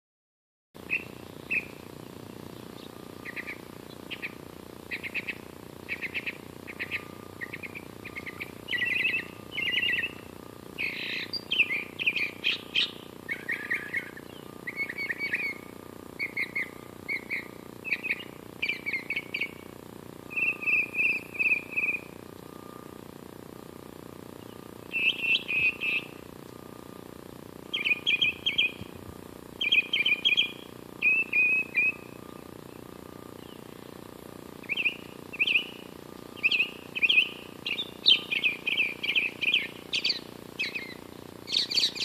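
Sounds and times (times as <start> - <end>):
songbird singing: 0.8 - 42.0.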